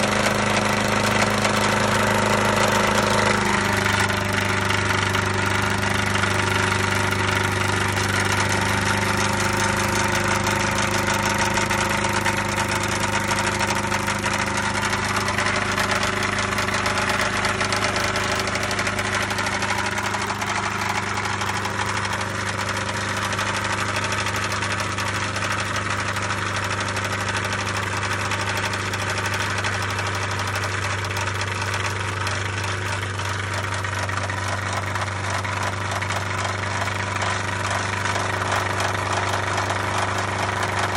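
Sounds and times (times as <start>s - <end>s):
boat engine idling with knock: 0.0s - 40.9s.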